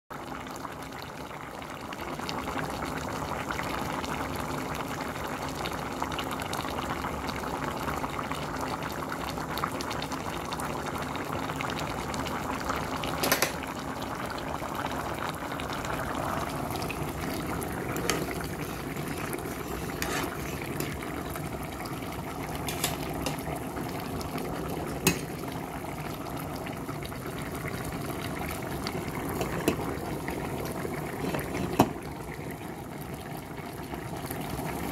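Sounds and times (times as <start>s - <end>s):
pot bubbling at a boil: 0.1s - 34.9s.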